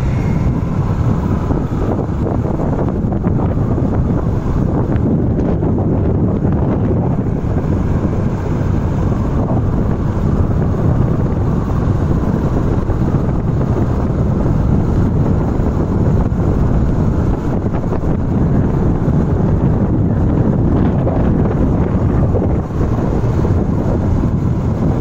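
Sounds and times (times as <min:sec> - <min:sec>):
vehicle rumble: 0:00.0 - 0:25.0
wind buffeting microphone: 0:00.0 - 0:25.0.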